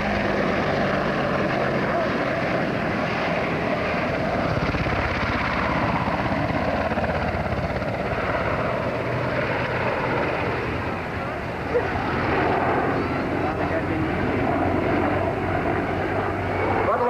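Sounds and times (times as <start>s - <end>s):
helicopter passing: 0.0s - 17.0s.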